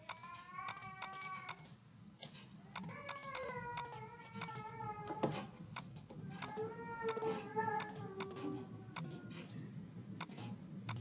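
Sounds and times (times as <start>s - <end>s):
computer mouse clicking: 0.0s - 4.7s, 5.7s - 9.5s, 10.2s - 11.0s.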